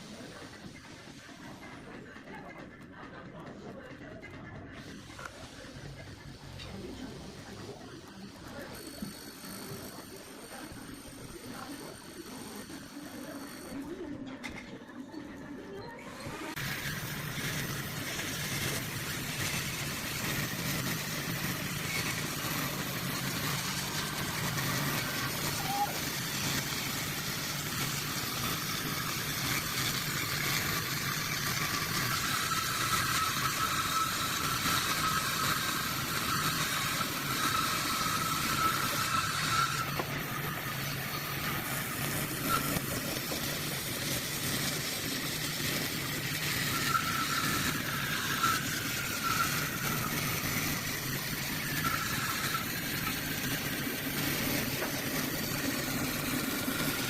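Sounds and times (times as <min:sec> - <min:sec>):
motor humming and whining: 0:04.7 - 0:57.0.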